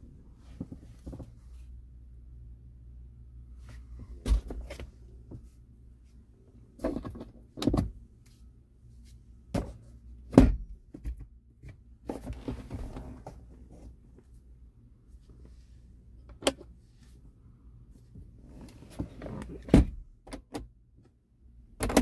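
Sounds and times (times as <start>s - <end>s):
low steady cabin hum: 0.0s - 22.0s.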